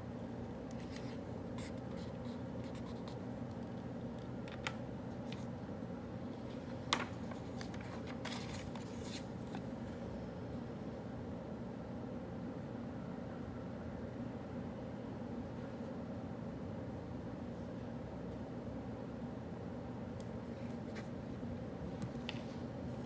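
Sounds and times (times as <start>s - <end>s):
quiet room hum: 0.0s - 23.0s.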